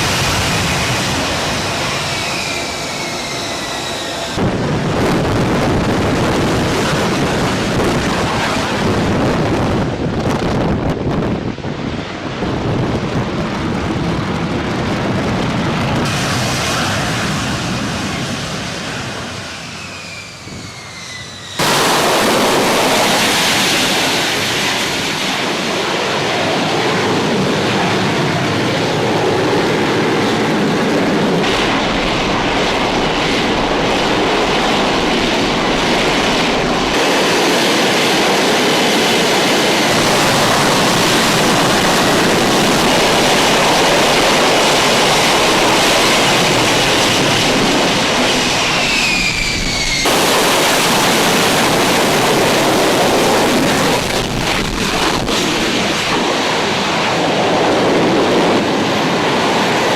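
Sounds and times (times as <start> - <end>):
jet whine passing: 0.0 - 59.9
loud steady jet roar: 0.0 - 59.9.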